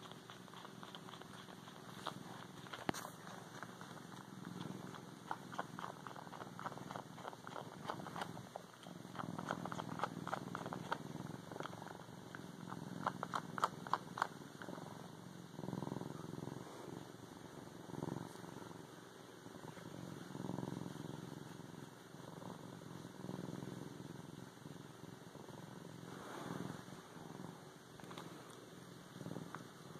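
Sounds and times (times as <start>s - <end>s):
bobcat purring: 0.0s - 29.9s.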